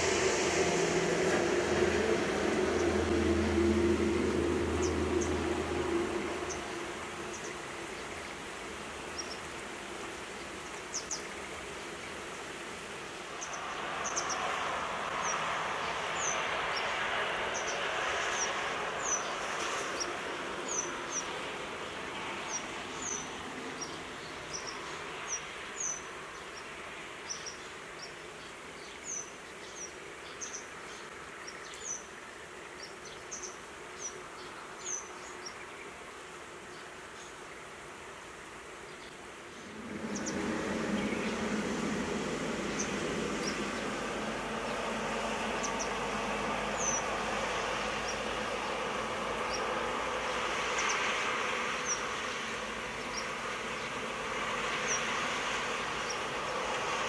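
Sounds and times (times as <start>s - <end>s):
traffic hiss: 0.0s - 57.0s
vehicle passing on wet road: 0.0s - 57.0s.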